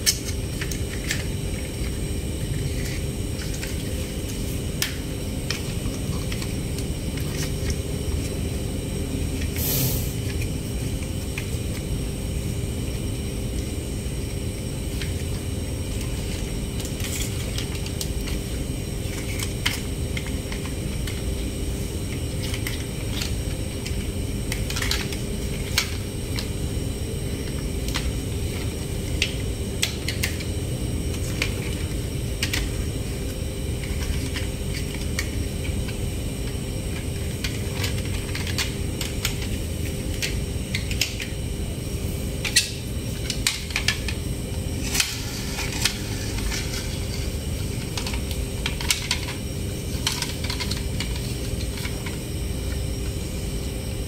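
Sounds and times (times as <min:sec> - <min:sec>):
low background hum: 0:00.0 - 0:54.0.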